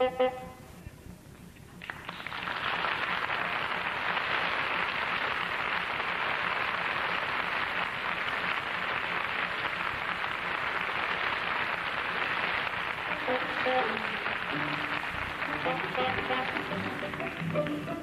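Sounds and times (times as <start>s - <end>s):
studio audience applauding: 1.8s - 18.0s.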